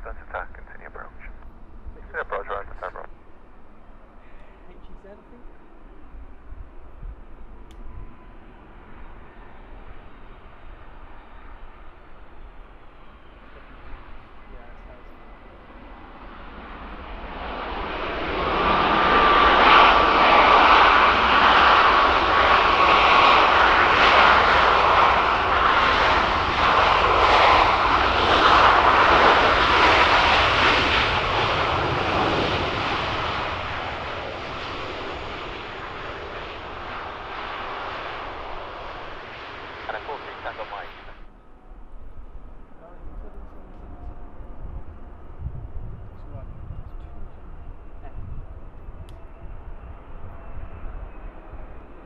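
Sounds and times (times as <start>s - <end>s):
jet aircraft passing: 0.0s - 52.0s.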